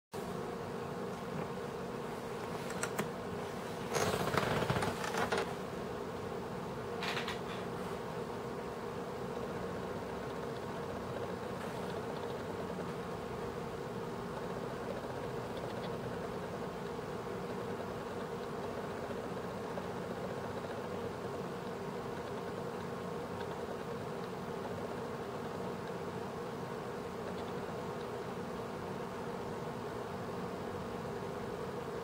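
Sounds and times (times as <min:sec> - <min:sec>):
ceiling fan humming: 0:00.2 - 0:32.0.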